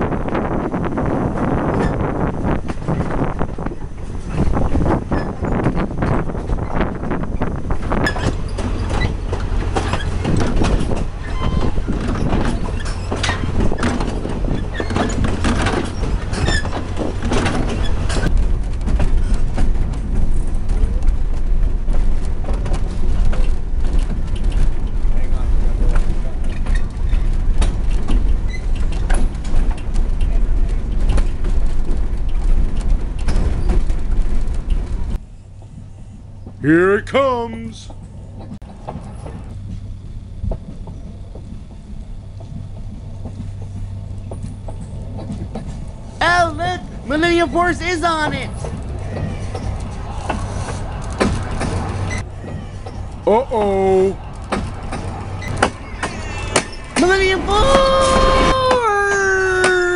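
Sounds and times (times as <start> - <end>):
train rumble: 0.0 - 59.9
wheels clacking on rails: 0.0 - 59.9.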